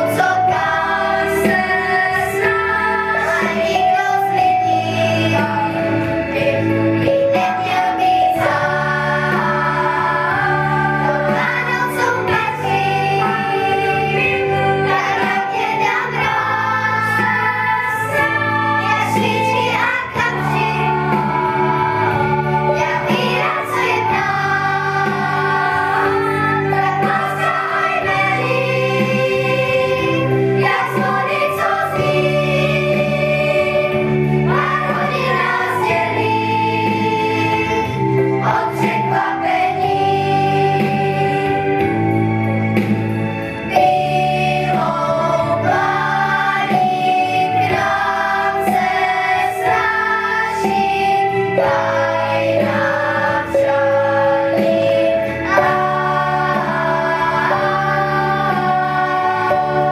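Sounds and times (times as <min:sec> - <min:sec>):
children's choir singing: 0:00.0 - 0:59.9.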